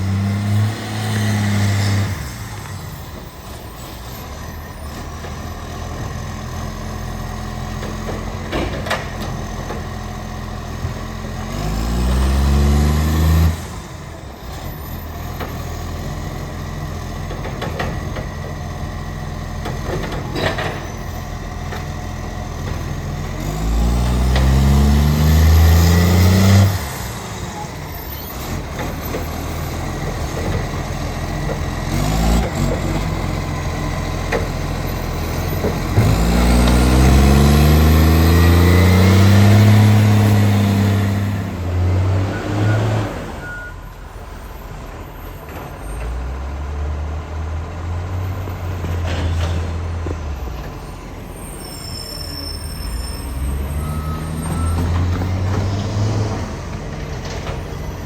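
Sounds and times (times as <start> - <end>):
diesel truck engine revving: 0.0 - 58.0.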